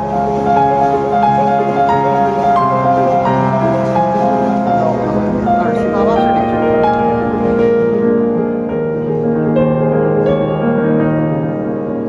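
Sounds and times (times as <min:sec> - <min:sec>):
piano background music: 0:00.0 - 0:12.0.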